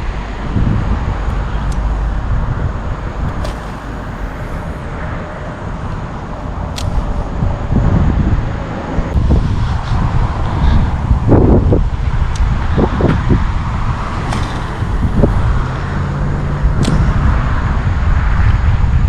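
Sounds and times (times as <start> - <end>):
road traffic rushing: 0.0 - 19.0
wind buffeting microphone: 0.0 - 19.0.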